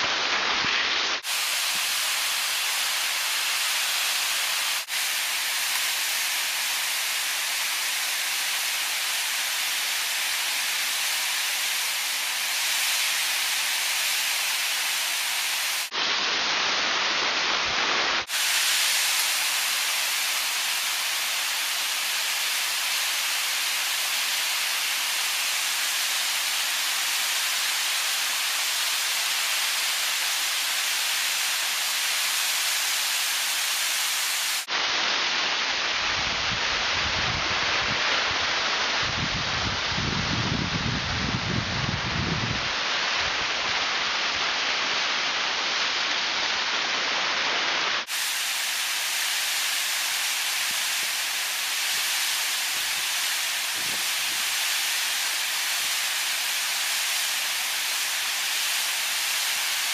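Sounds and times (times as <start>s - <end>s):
waterfall rushing over rock: 0.0s - 59.9s.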